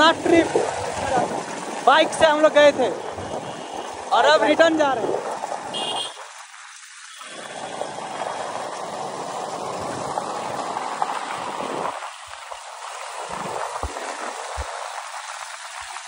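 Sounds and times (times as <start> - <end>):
wind rushing over microphone: 0.0 - 6.1, 7.5 - 15.0.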